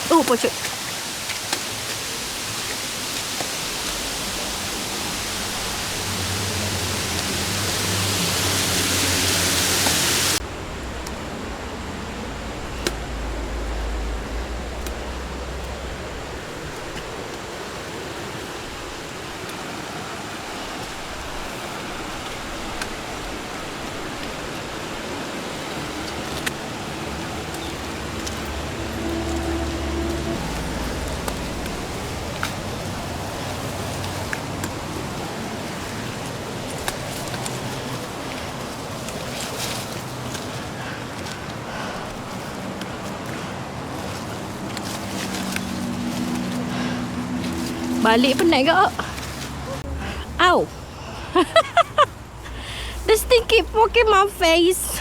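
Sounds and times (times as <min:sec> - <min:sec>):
waterfall rushing: 0:00.0 - 0:10.4, 0:14.0 - 0:51.5.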